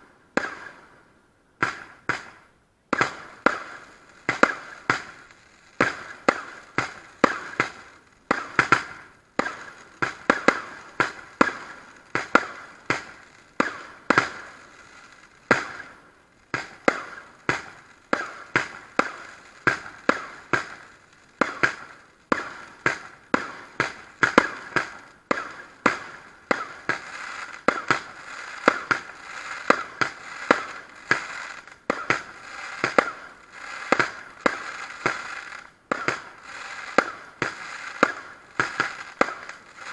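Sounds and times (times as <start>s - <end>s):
firework crackling: 0.0s - 1.0s, 1.6s - 39.9s
firework bangs: 0.3s - 0.9s, 1.6s - 39.9s.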